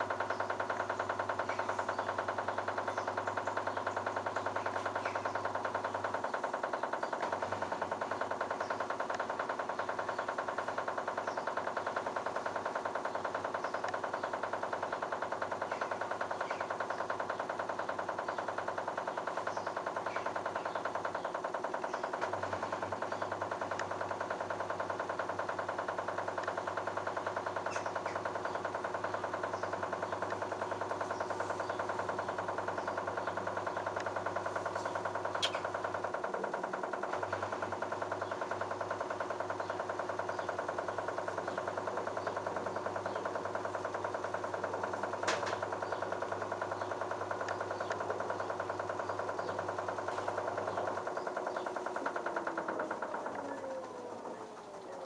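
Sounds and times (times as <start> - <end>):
low pump hum: 0.0 - 55.0
washing machine motor whine: 0.0 - 55.0.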